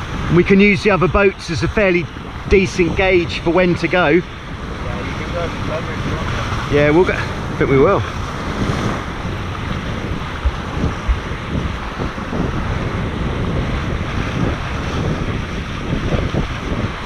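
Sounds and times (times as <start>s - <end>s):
low wind thumps: 0.0s - 17.0s
water rushing past hulls: 0.0s - 17.0s
wind buffeting microphone: 0.0s - 17.0s.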